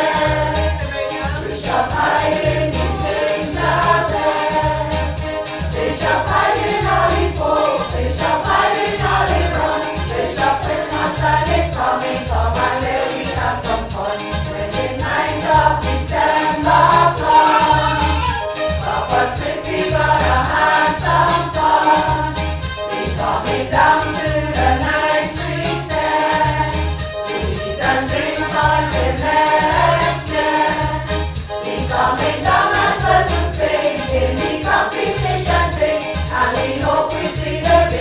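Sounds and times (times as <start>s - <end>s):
choir singing: 0.0s - 38.0s
instrumental accompaniment with beat: 0.0s - 38.0s.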